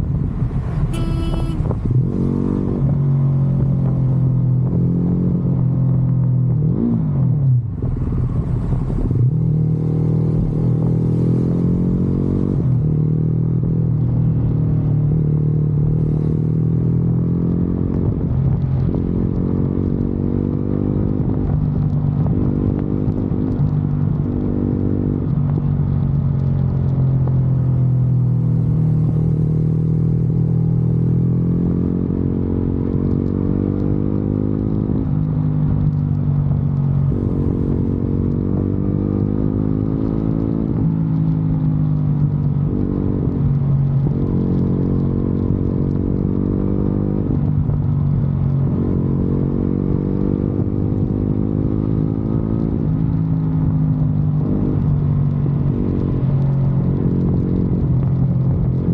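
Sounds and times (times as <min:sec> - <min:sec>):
motorcycle engine revving: 0:00.6 - 0:07.6, 0:09.0 - 0:21.6, 0:27.2 - 0:58.9.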